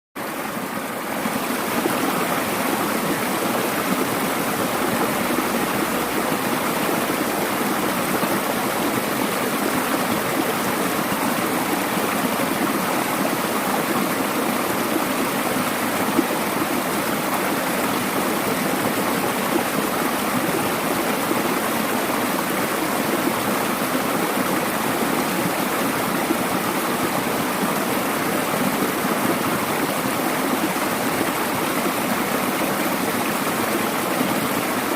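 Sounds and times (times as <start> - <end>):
stream rushing over rocks: 0.2 - 34.9.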